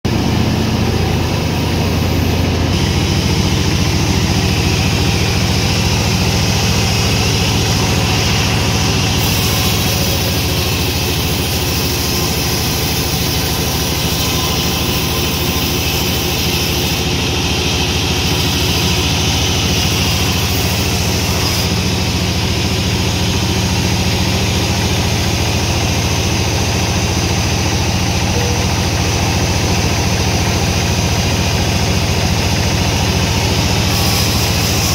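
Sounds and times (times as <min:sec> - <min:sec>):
sawmill machinery running: 0:00.0 - 0:34.9.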